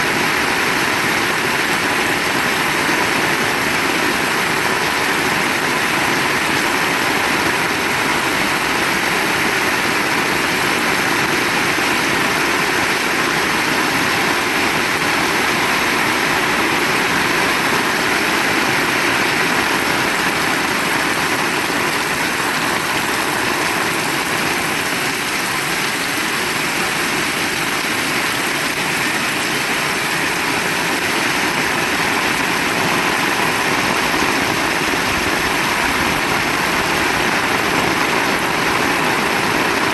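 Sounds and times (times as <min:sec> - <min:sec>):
heavy rain pouring: 0:00.1 - 0:39.9.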